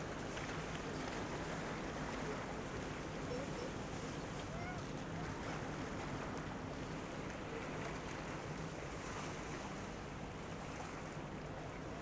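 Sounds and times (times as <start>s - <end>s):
small waves washing: 0.0s - 12.0s.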